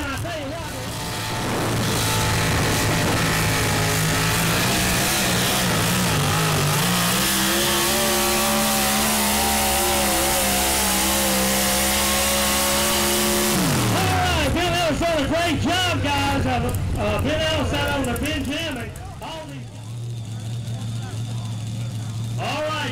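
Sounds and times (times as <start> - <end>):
truck engine at high revs: 0.0 - 22.9.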